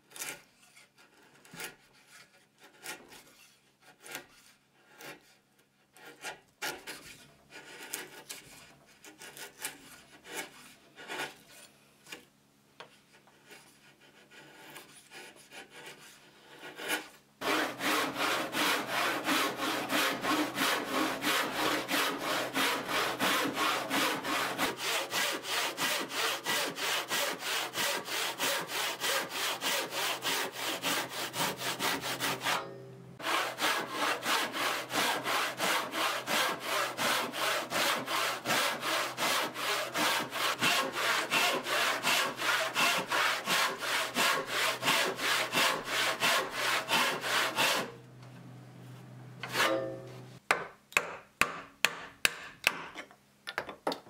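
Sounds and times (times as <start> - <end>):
handsaw cutting wood: 0.1 - 12.2, 13.2 - 48.0, 49.4 - 49.9.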